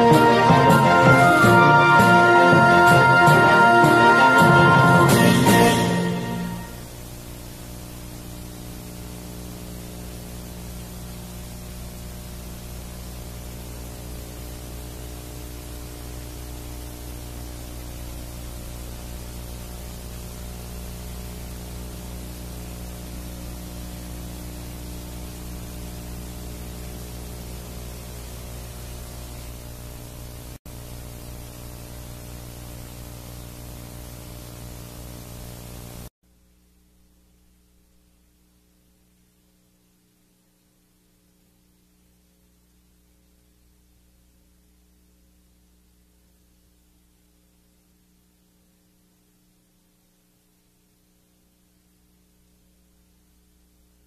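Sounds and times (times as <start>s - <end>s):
steady hiss: 0.0s - 45.7s
low electrical hum: 0.0s - 54.0s.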